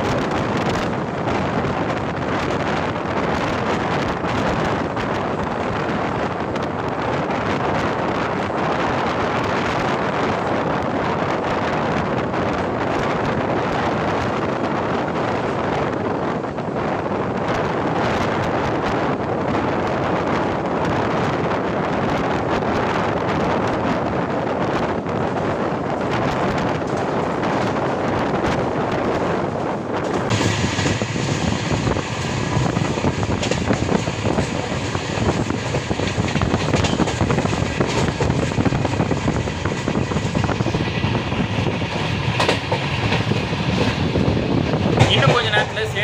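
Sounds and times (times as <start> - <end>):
train running at speed: 0.0 - 46.0.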